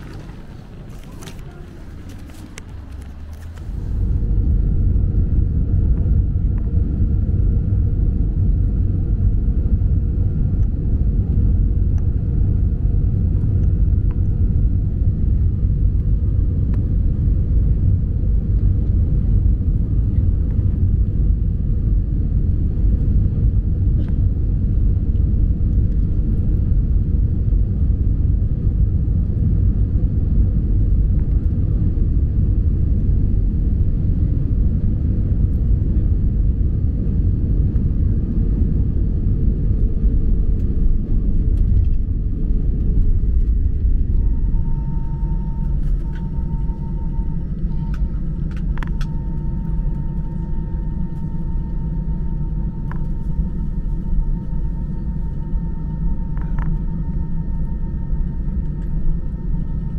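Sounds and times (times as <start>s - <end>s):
airplane engines and airflow in cabin: 0.0s - 59.9s
faint steady hum: 0.0s - 59.9s.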